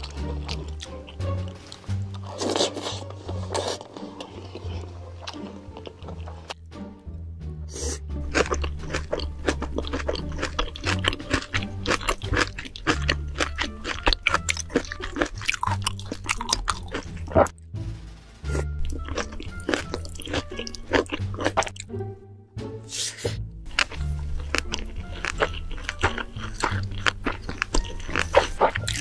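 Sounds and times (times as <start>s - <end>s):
crunching and chewing food: 0.0s - 6.6s, 7.8s - 17.5s, 18.5s - 22.0s, 23.7s - 29.0s
background music bass line: 0.0s - 29.0s.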